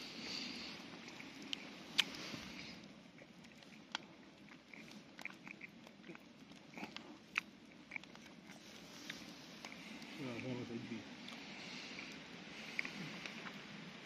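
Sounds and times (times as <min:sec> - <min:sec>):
low hiss of burning wood: 0:00.0 - 0:14.0.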